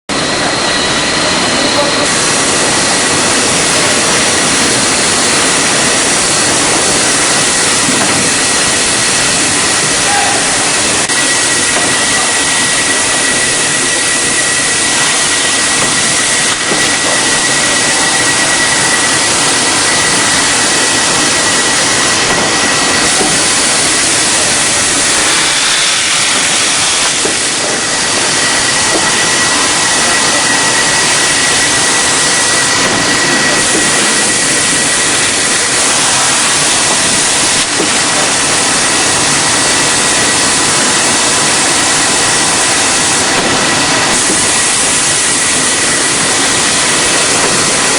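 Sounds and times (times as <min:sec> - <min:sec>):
machine rushing with high whine: 0:00.1 - 0:47.9.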